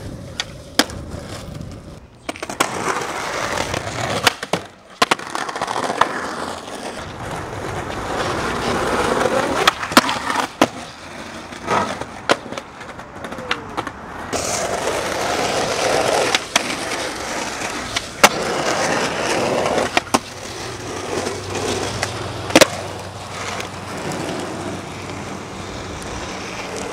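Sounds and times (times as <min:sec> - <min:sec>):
skateboard clacking on ground: 0:00.0 - 0:26.9
skateboard wheels rolling on concrete: 0:00.0 - 0:26.9.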